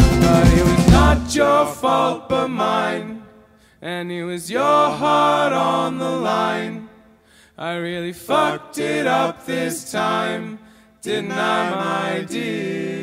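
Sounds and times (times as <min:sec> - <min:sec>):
men singing in harmony: 0:00.0 - 0:06.9, 0:07.6 - 0:13.0.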